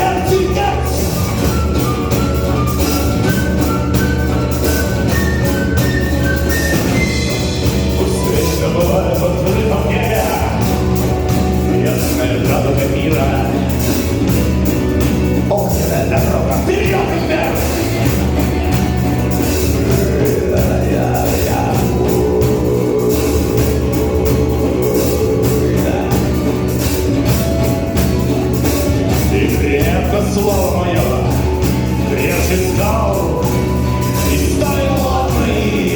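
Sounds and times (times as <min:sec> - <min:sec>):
live rock band playing: 0:00.0 - 0:35.9.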